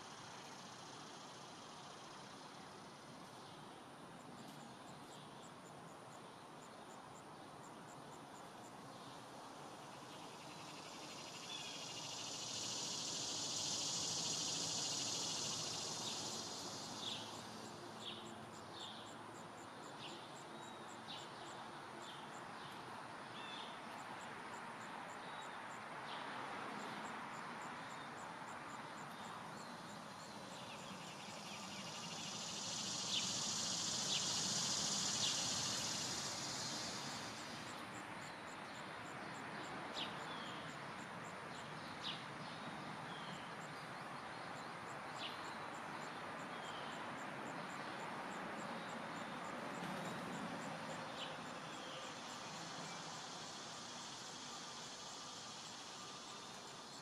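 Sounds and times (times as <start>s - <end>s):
insects buzzing: 0.0s - 57.0s
low background noise: 0.0s - 57.0s.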